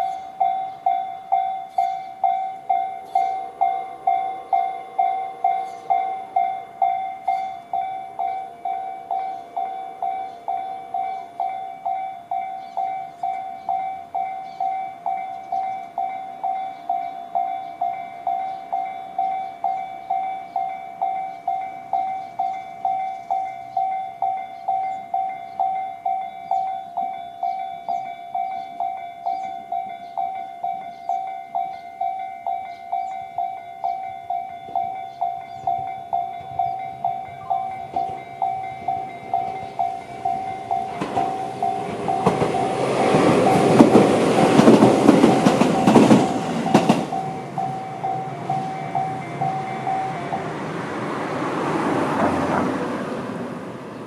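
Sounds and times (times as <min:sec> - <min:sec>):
electronic crossing warning bells: 0:00.0 - 0:54.0.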